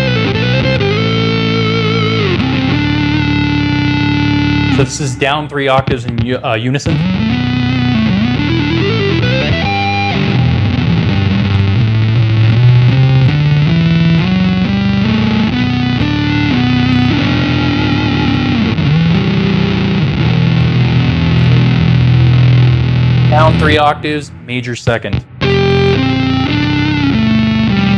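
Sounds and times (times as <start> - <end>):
fuzzy synth guitar notes: 0.0 - 27.9.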